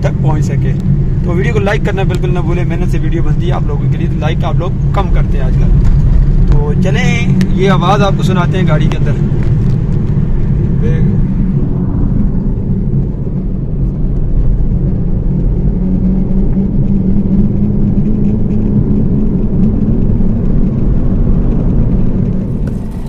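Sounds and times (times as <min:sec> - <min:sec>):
road noise inside car: 0:00.0 - 0:23.0
wheel bearing drone: 0:00.0 - 0:23.0.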